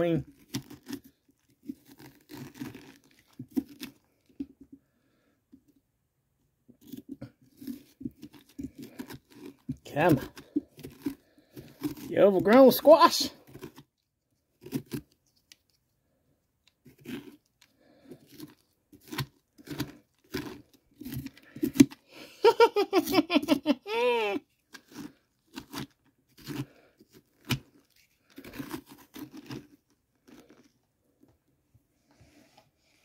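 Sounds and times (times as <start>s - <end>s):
pumpkin being carved and scraped: 0.0s - 5.3s, 6.7s - 15.9s, 16.6s - 30.8s, 31.9s - 33.0s.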